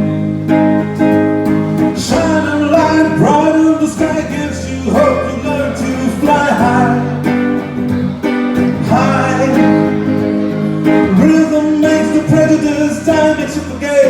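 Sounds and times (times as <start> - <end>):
lead guitar line bending: 0.0 - 14.0
live band playing: 0.0 - 14.0.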